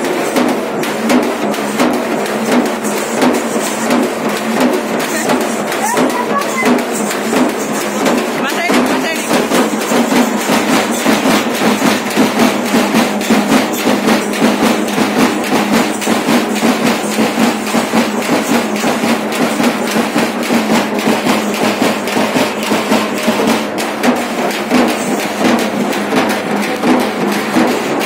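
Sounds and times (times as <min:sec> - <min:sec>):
fast drumming: 0:00.0 - 0:28.0.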